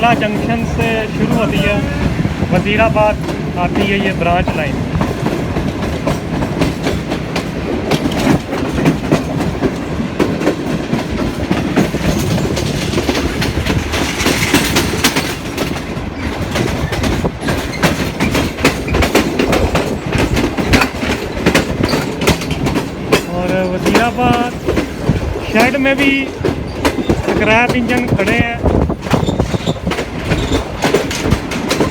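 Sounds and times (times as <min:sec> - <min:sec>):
train wheels clattering: 0:00.0 - 0:31.9.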